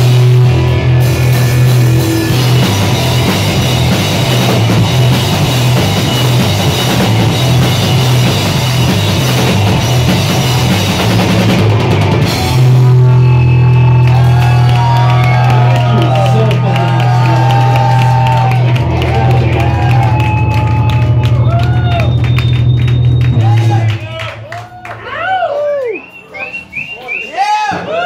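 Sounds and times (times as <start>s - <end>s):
electric guitar: 0.0s - 24.0s
drum kit pounding: 0.0s - 24.8s
bass guitar: 0.0s - 25.0s.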